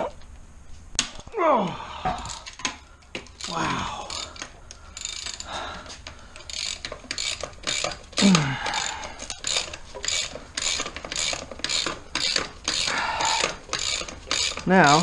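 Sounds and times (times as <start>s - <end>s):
ratchet wrench clicking: 2.3s - 15.0s.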